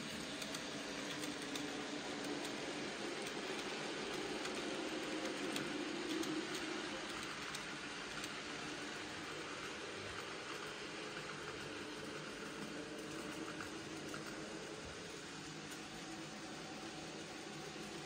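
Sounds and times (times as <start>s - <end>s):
light clicks of train wheels: 0.0s - 18.0s
model train rolling on rails: 0.0s - 18.0s.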